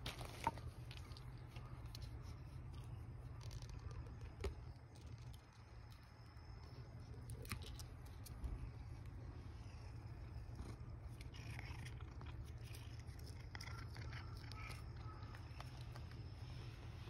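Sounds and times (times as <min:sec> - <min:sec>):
cat sniffing and licking: 0:00.0 - 0:17.0
low steady rumble: 0:00.0 - 0:17.0.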